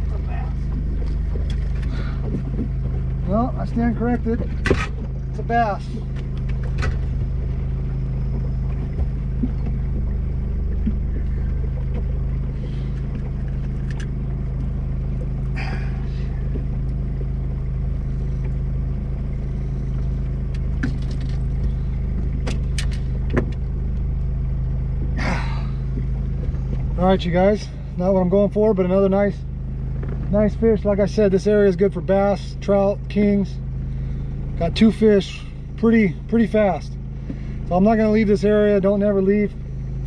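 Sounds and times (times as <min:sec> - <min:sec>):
boat motor humming: 0:00.0 - 0:40.0.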